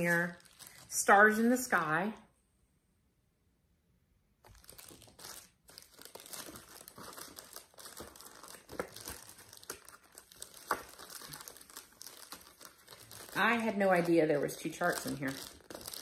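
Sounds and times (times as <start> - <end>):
plastic packaging crinkling: 0.0 - 1.6, 4.4 - 16.0.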